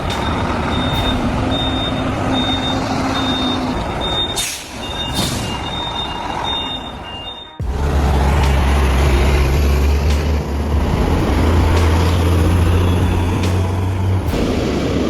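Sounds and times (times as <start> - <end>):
heavy vehicle engine droning: 0.0 - 15.0.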